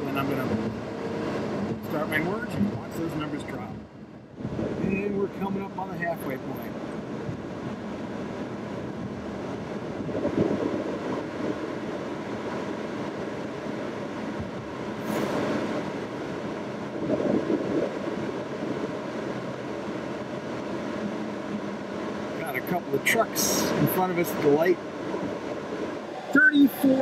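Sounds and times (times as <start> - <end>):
road and tyre noise: 0.0 - 27.0.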